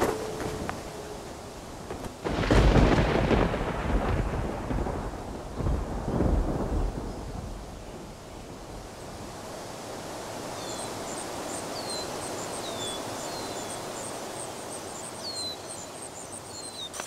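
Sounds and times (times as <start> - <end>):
birds chirping: 0.0 - 4.8, 5.4 - 17.0
wind hiss: 0.0 - 17.0.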